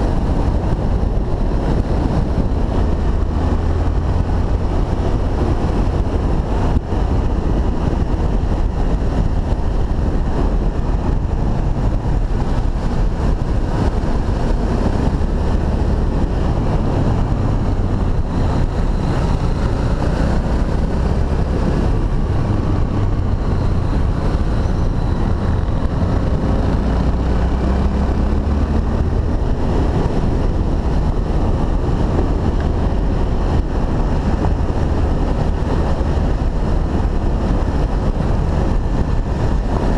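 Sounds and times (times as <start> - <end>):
motorcycle engine running: 0.0 - 39.9
wind buffeting on microphone: 0.0 - 39.9.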